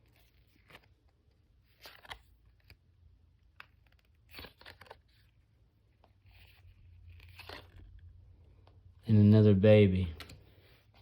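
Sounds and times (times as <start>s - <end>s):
trading cards rustling: 0.0s - 8.9s.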